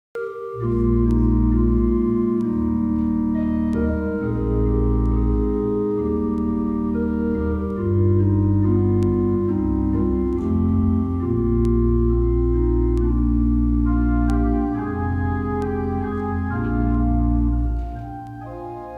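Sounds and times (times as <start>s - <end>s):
organ playing sustained chords: 0.2s - 18.9s.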